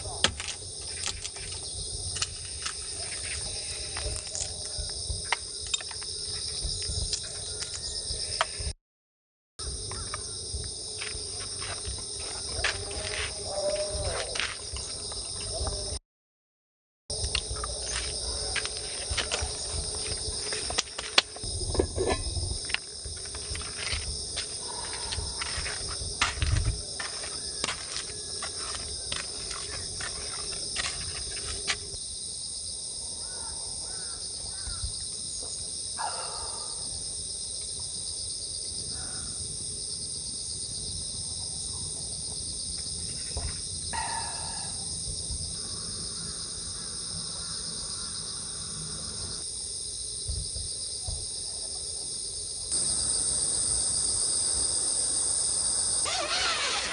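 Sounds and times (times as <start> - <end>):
crickets chirping: 0.0 - 8.8, 9.6 - 16.0, 17.1 - 56.9.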